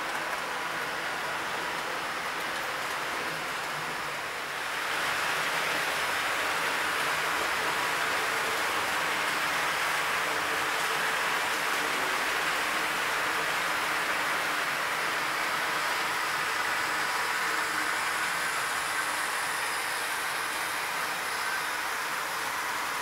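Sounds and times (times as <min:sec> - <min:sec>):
model train motor hiss: 0:00.0 - 0:23.0.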